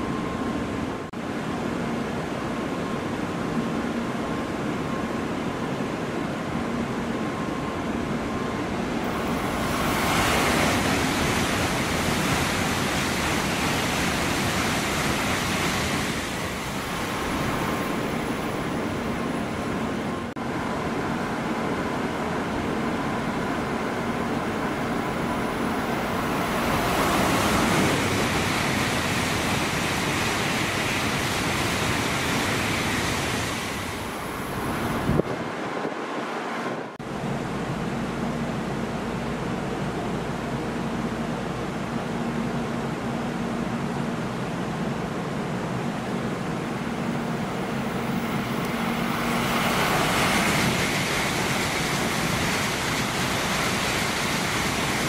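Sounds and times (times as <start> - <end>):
high-speed train rushing past: 0.0 - 55.0.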